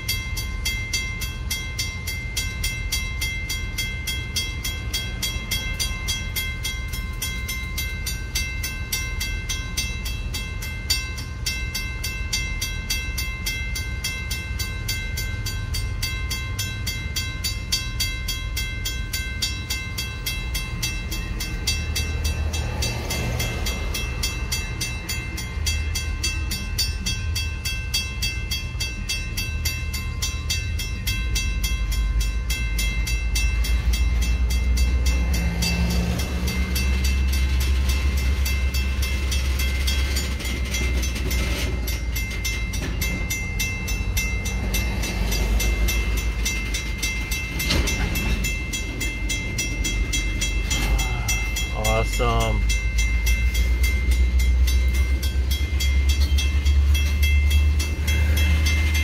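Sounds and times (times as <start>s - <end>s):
crossing bell ringing: 0.0s - 59.0s
freight train rumbling: 0.0s - 59.0s
train wheel clatter: 0.0s - 59.0s.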